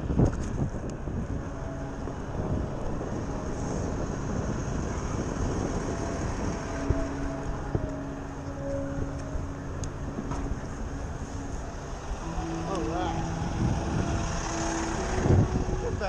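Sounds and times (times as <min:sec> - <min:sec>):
bus running close by: 0:00.0 - 0:16.0
city traffic rumble: 0:00.0 - 0:16.0
wind on microphone: 0:00.0 - 0:16.0.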